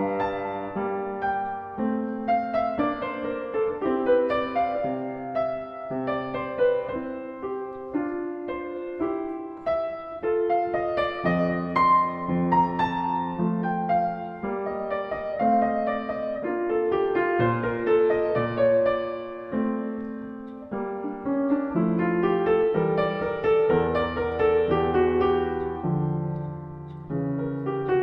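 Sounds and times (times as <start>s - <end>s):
slow classical piano piece: 0.0s - 28.0s.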